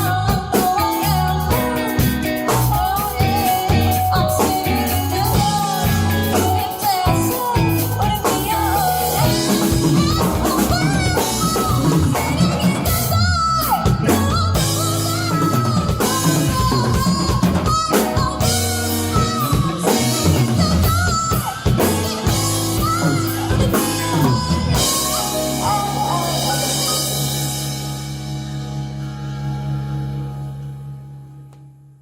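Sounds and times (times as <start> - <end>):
person singing: 0.0 - 28.1
drum kit: 0.0 - 31.2
bass guitar: 0.0 - 32.0
guitar: 0.0 - 32.0.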